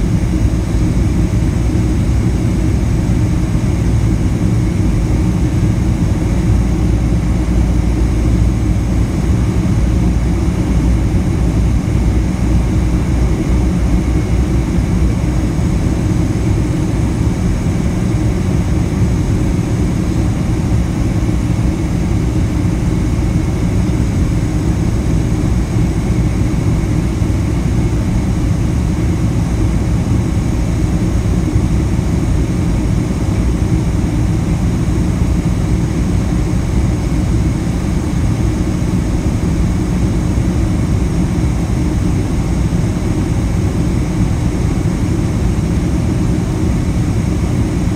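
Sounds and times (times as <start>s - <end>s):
jet engines deep rumble: 0.0s - 47.9s.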